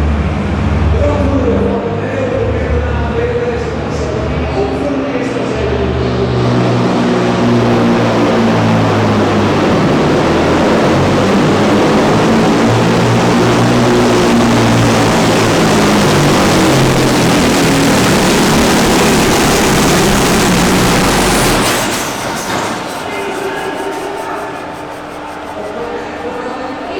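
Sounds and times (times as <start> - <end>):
diesel truck engine running hard: 0.0 - 26.9.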